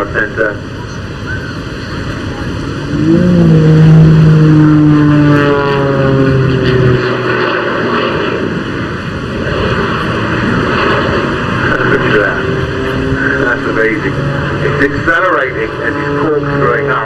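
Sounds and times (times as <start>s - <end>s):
jet turbines rushing: 0.0s - 17.0s
propeller engine drone: 0.0s - 17.0s.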